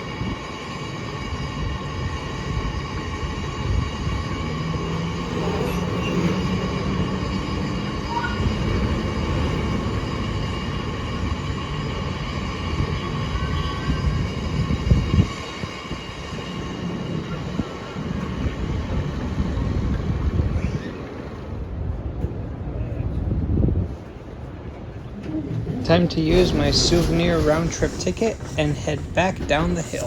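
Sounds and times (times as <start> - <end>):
rail car low rumble: 0.0 - 30.0.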